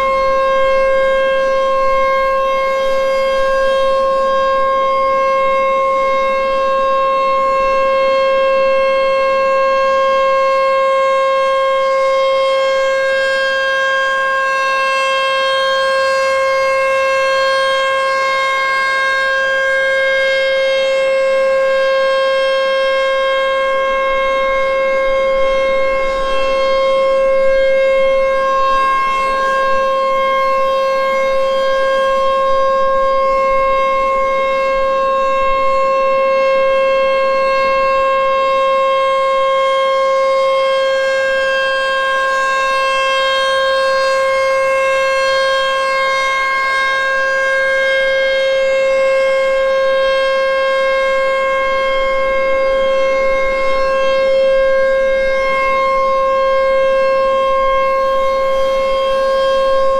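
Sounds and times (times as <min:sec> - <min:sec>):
emergency warning siren steady tone: 0:00.0 - 0:59.9.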